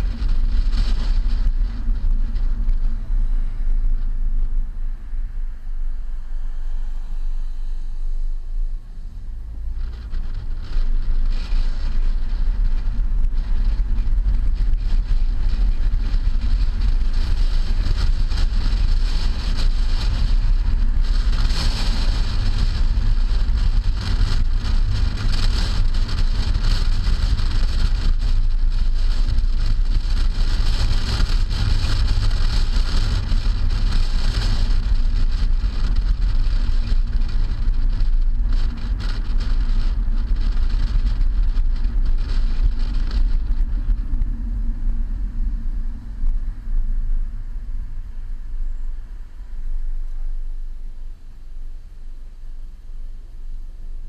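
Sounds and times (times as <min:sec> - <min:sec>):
car road and tyre noise: 0:00.0 - 0:54.0
wind buffeting microphone: 0:00.0 - 0:54.0.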